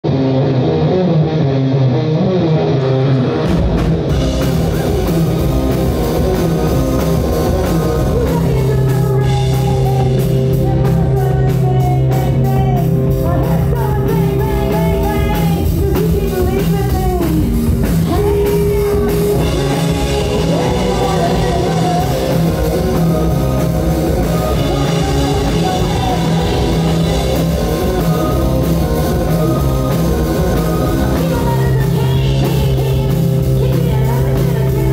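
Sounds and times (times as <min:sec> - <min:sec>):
electric guitar: 0:00.0 - 0:34.9
drum kit: 0:03.3 - 0:34.9
combo organ: 0:03.4 - 0:34.9.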